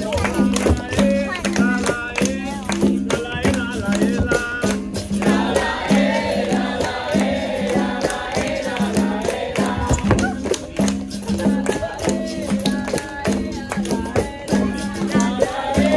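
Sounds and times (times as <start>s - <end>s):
hand percussion: 0.0s - 15.9s
group singing in chorus: 0.3s - 15.9s.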